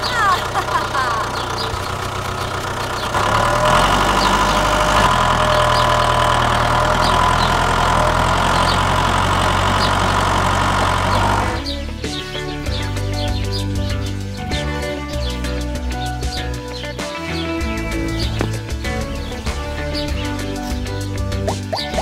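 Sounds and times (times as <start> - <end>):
tractor engine running: 0.0 - 14.8, 17.5 - 22.0.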